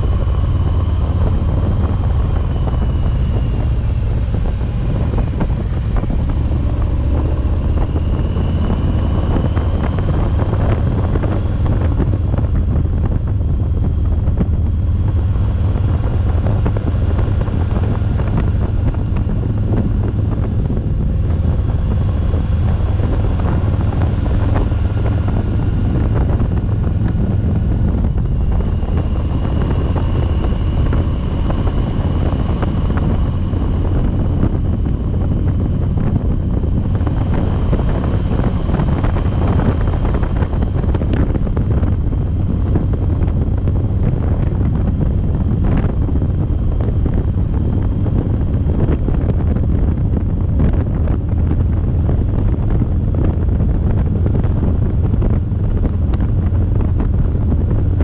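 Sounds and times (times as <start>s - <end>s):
heavy wind noise on microphone: 0.0s - 58.0s
motorcycle engine: 0.0s - 58.0s
road noise: 0.0s - 58.0s.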